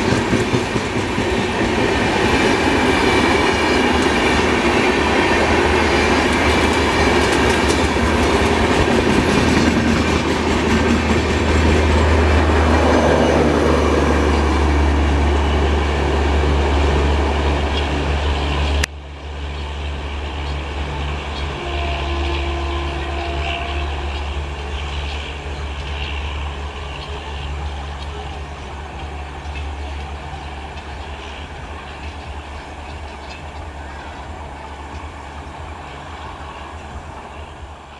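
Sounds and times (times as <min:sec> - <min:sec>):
train low hum: 0:00.0 - 0:37.9.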